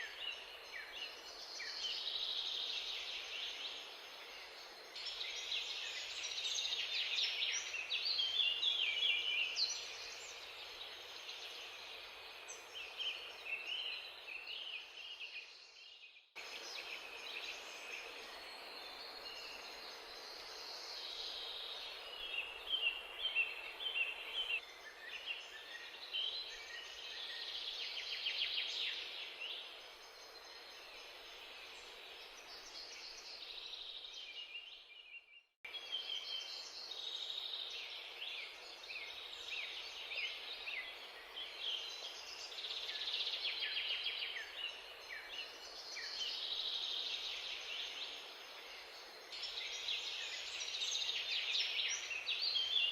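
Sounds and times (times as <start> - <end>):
background hiss: 0.0 - 35.0, 35.7 - 52.9
small birds chirping: 0.0 - 52.9.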